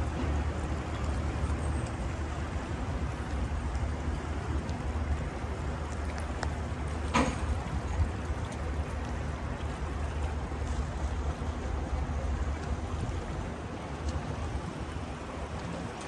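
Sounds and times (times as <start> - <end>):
constant low rumble: 0.0 - 16.0
lake water lapping on rocks: 0.0 - 16.0.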